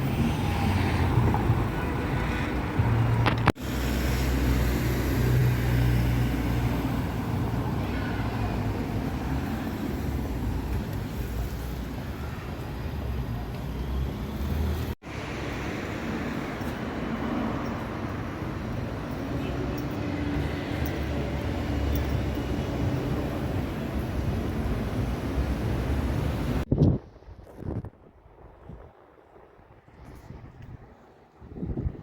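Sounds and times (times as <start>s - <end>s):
passing traffic rumble: 0.0s - 26.7s.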